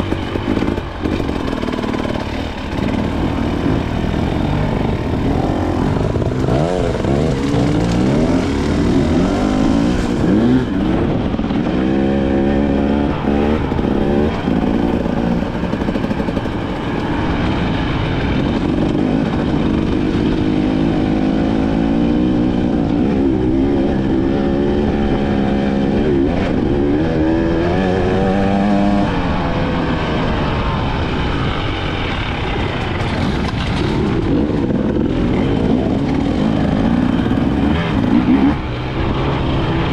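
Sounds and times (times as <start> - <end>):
two-stroke dirt bike engine revving: 0.0 - 39.9.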